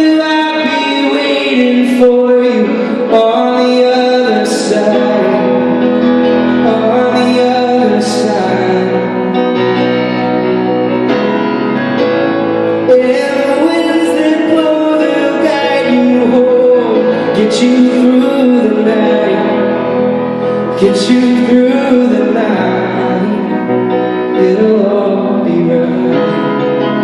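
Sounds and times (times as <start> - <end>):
person singing: 0.0 - 10.2, 12.7 - 27.0
piano and band accompaniment: 0.0 - 27.0.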